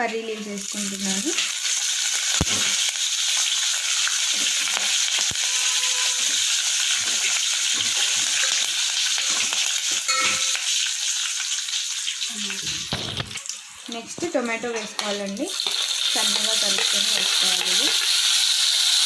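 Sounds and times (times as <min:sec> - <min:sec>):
oil sizzling in a pan: 0:00.0 - 0:19.0.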